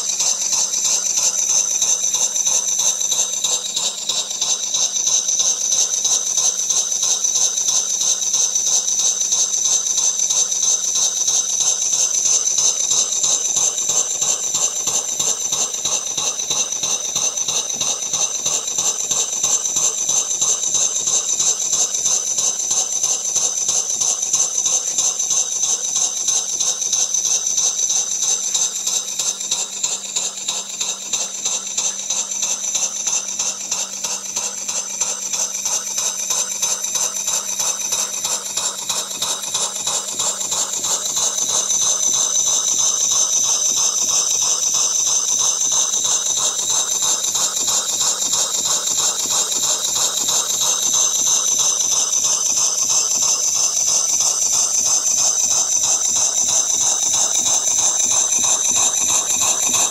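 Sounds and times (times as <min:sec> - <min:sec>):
model steam engine exhaust puffs: 0:00.0 - 0:59.9.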